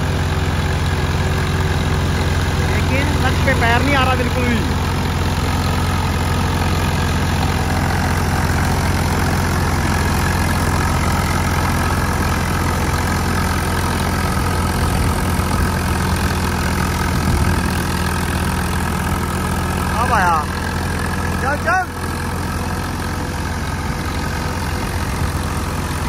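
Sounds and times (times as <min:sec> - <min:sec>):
reaper machinery whirring: 0:00.0 - 0:26.0
tractor diesel engine running: 0:00.0 - 0:26.0.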